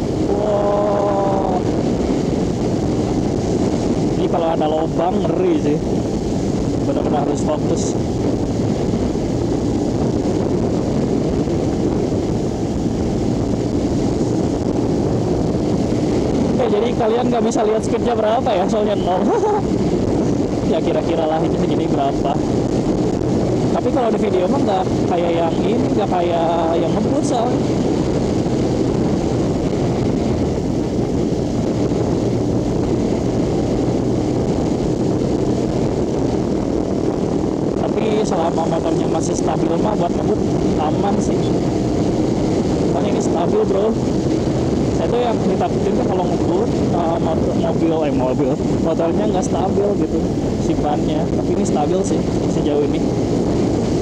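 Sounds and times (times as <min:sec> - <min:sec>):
motorcycle engine drone: 0:00.0 - 0:54.0
wind rushing on microphone: 0:00.0 - 0:54.0.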